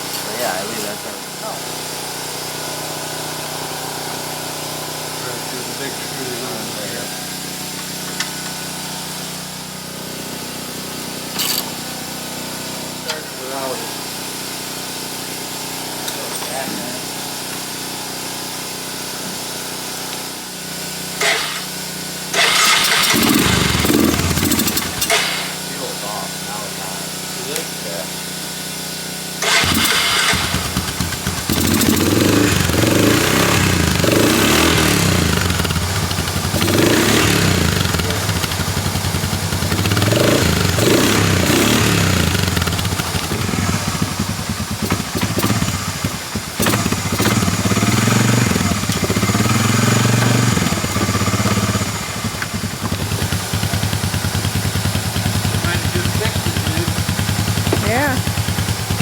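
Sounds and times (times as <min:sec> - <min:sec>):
engine revving and idling: 0:00.0 - 0:18.5, 0:21.0 - 0:28.5, 0:29.1 - 0:59.0.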